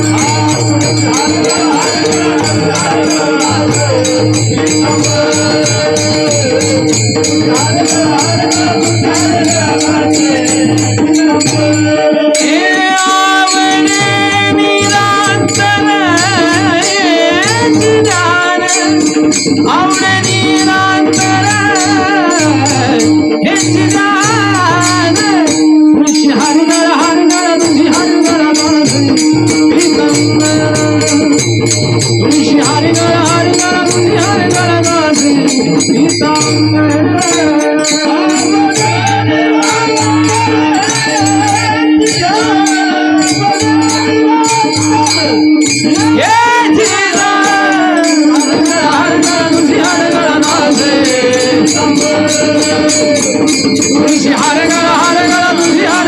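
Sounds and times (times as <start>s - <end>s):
person singing melodic line: 0.0s - 56.0s
rattling percussion: 0.0s - 56.0s.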